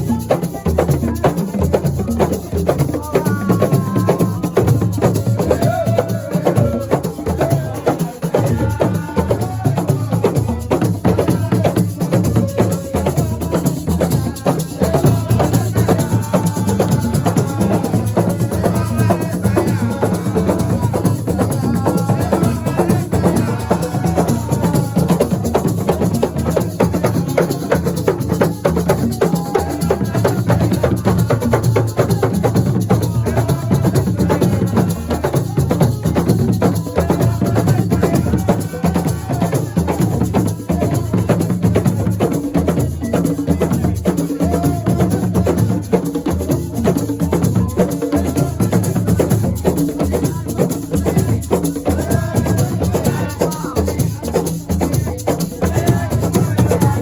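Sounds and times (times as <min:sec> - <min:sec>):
drums: 0:00.0 - 0:57.0
shaker: 0:00.0 - 0:57.0.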